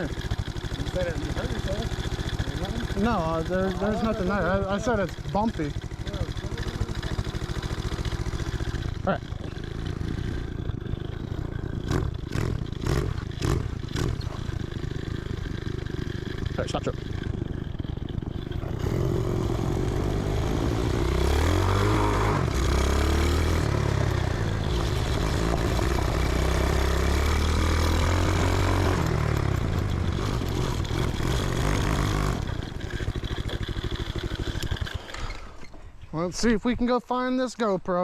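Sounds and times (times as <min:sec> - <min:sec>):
engine clatter: 0:00.0 - 0:35.6
small engine running: 0:00.0 - 0:35.8.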